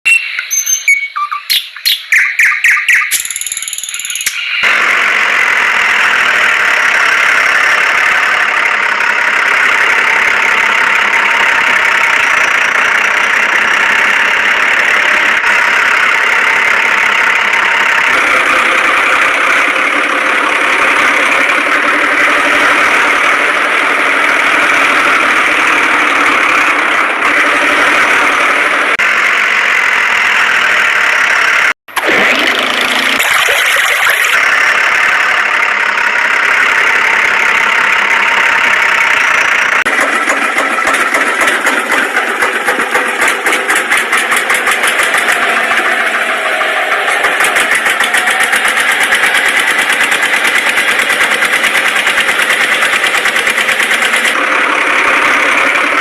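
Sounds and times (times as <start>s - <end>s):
tractor engine running: 0.1s - 56.0s.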